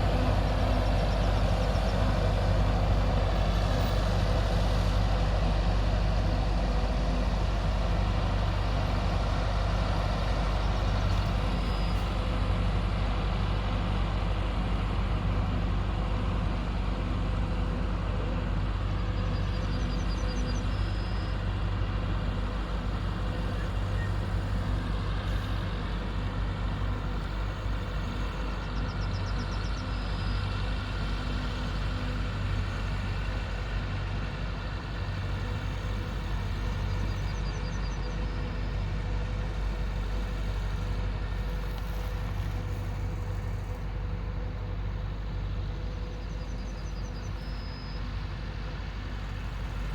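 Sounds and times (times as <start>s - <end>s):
diesel machinery engine drone: 0.0s - 49.9s.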